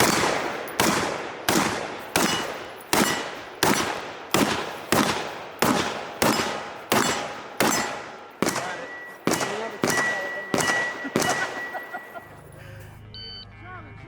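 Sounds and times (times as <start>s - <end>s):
gunshots with echo: 0.0s - 12.3s.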